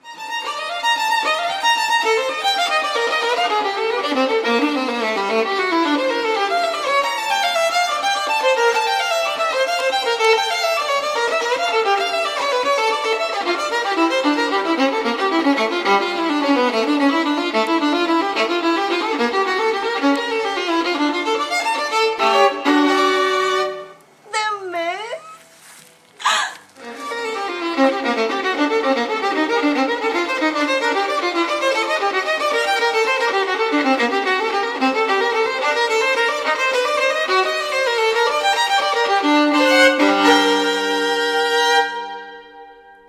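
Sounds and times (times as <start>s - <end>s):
violin music: 0.0s - 24.2s, 26.8s - 42.9s.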